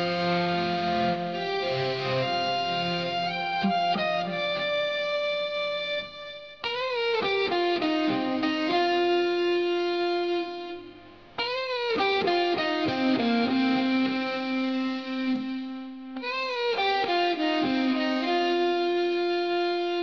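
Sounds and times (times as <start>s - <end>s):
slow instrumental melody: 0.0s - 20.0s.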